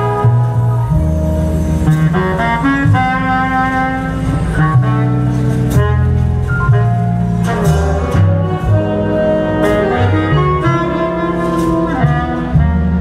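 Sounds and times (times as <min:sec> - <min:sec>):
jazz big band playing: 0:00.0 - 0:13.0
upright bass: 0:00.0 - 0:13.0.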